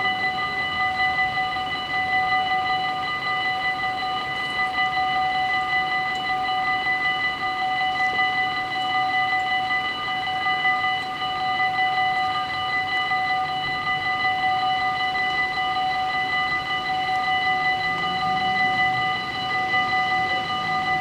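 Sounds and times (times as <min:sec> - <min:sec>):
level crossing warning bells: 0:00.0 - 0:21.0.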